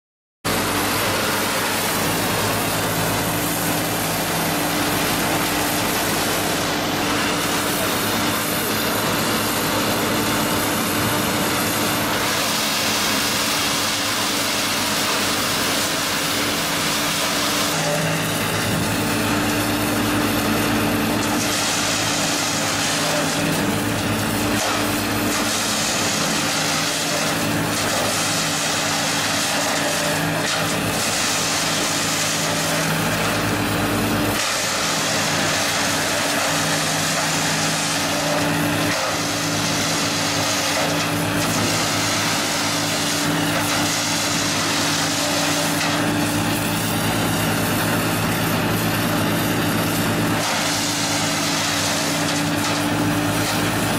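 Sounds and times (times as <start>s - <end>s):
diesel engine running: 0.5s - 53.9s
wood chipper crunching branches: 0.5s - 53.9s.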